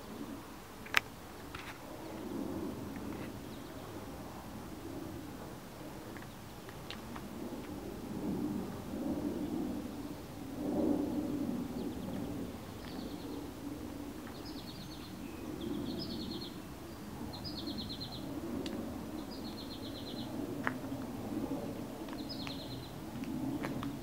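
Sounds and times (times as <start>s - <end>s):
low wind rumble: 0.0s - 24.0s.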